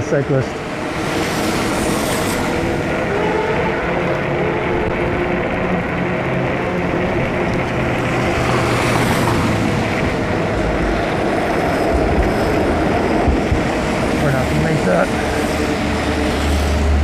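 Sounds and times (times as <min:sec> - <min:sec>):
street traffic drone: 0:00.0 - 0:17.0
vehicle passing: 0:00.4 - 0:17.0
tyre noise on road: 0:01.1 - 0:17.0.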